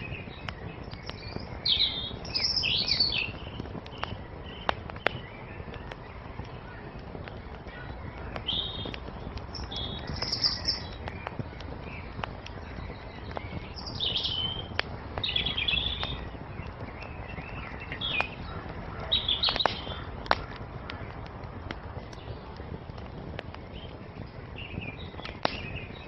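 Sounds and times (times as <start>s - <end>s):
songbirds chirping: 0.0s - 26.0s
wood fire crackling and popping: 0.0s - 26.0s.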